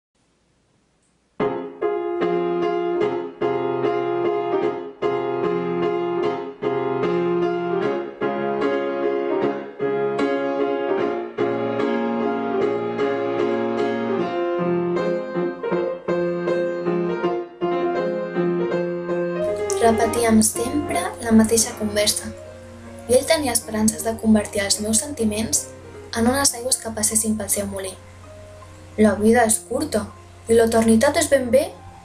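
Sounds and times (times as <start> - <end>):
piano music: 1.4 - 32.0.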